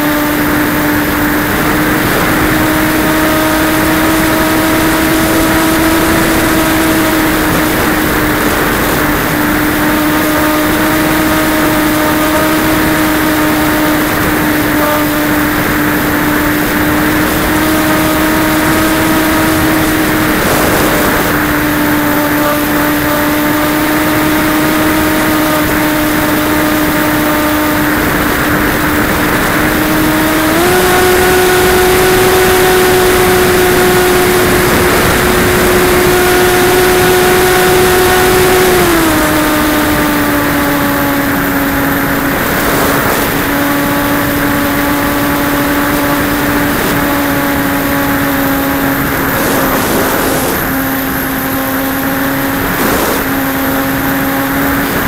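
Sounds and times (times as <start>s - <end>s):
electric motor and propeller drone: 0.0s - 55.0s
wind rush over microphone: 0.0s - 55.0s.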